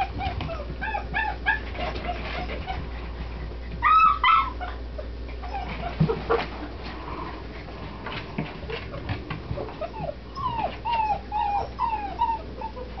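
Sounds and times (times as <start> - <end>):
puppies whimpering: 0.0 - 6.6, 7.3 - 13.0.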